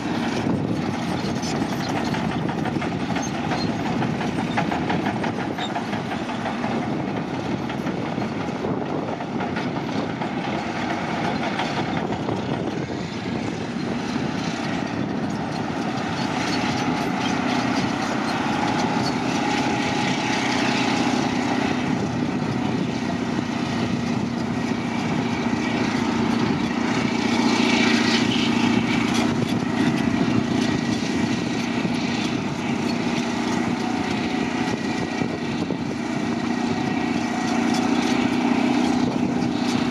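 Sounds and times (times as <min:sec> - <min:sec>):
crawler dozer diesel engine: 0:00.0 - 0:39.9
machine clatter: 0:00.0 - 0:39.9.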